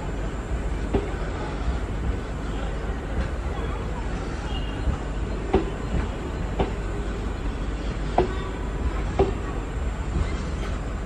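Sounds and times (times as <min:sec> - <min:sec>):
train coaches rumbling: 0:00.0 - 0:11.0.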